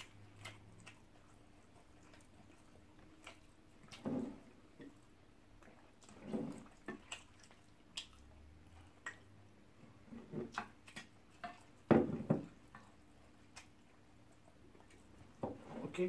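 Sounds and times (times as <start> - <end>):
chewing: 0.0 - 9.5, 10.4 - 15.4
fingers squishing in thick soup: 0.0 - 16.0.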